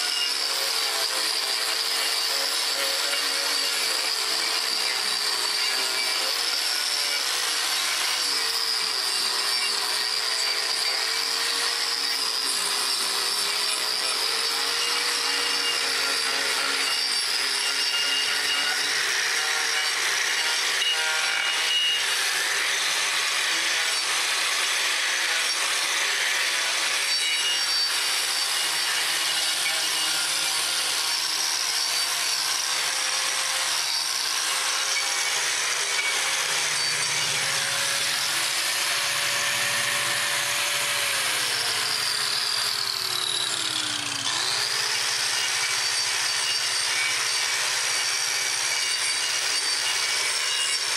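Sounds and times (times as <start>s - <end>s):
angle grinder grinding wood: 0.0s - 50.9s.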